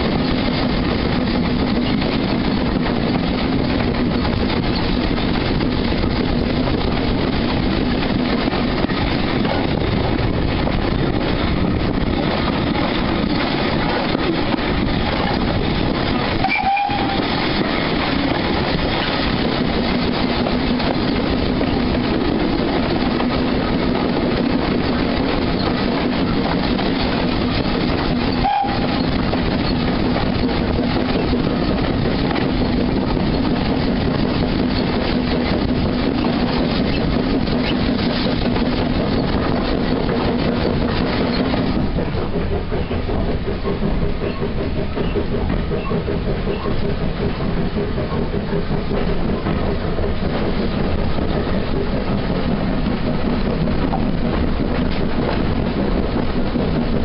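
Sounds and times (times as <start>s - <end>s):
steam locomotive working: 0.0s - 57.0s
wheels on rails: 0.0s - 57.0s.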